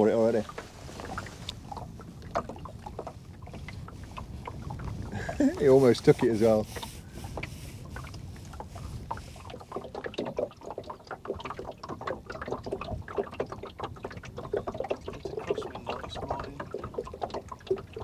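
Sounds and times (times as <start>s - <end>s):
low wind rumble: 0.0s - 18.0s
waves lapping against boat: 0.0s - 18.0s.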